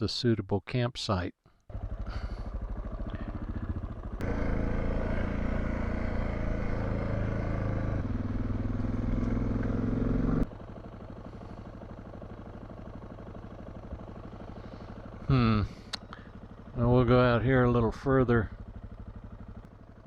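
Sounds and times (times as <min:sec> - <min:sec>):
motorcycle engine running: 0:01.7 - 0:20.0.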